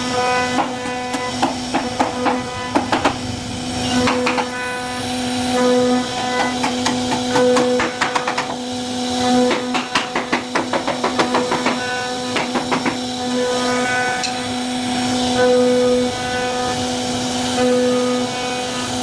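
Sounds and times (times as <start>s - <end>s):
router spindle cutting wood: 0.0s - 19.0s.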